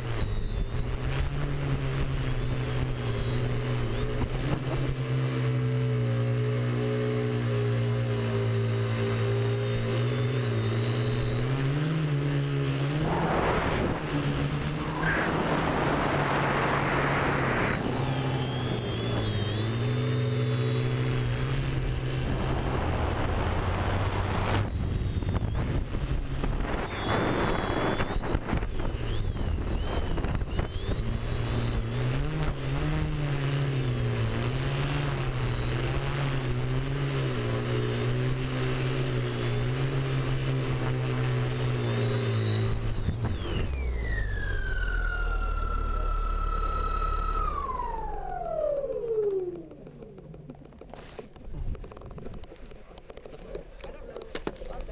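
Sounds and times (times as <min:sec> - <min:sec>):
drone motors buzzing: 0:00.0 - 0:54.9
propeller wash rushing: 0:00.0 - 0:54.9.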